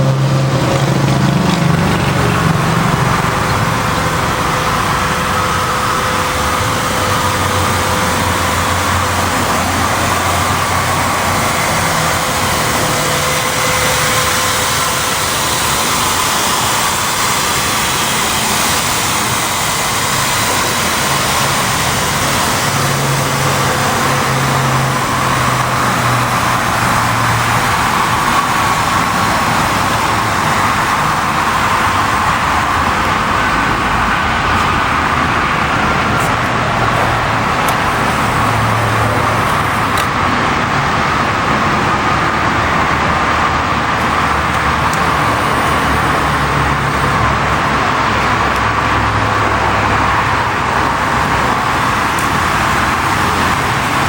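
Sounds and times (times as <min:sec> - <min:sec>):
loud rushing noise: 0:00.0 - 0:54.0
low engine hum: 0:00.0 - 0:54.0.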